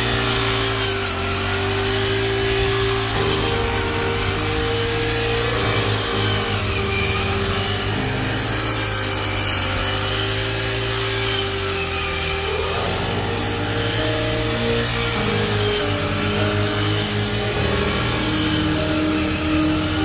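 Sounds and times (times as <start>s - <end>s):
engine drone: 0.0s - 20.0s
rasping grinding mechanical noise: 0.0s - 20.0s.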